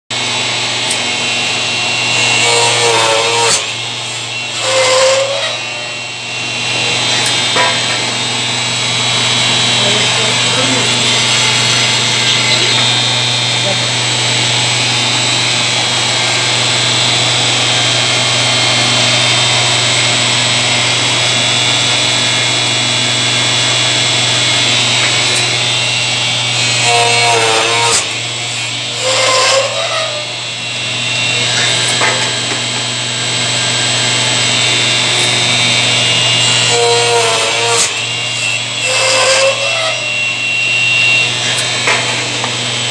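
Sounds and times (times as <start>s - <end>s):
wood lathe humming and whining: 0.1s - 42.9s.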